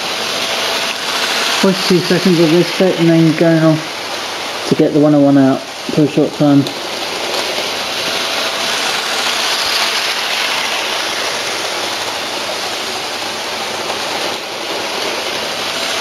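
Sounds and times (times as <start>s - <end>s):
model train rattling on track: 0.0s - 16.0s.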